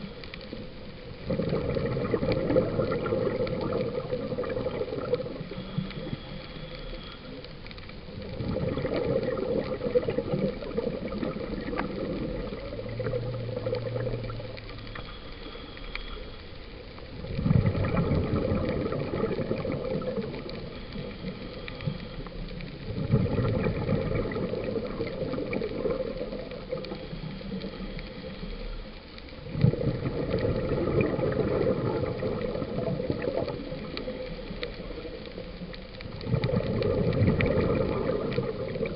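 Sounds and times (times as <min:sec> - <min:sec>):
underwater regulator bubbling exhaust: 0:00.0 - 0:38.9.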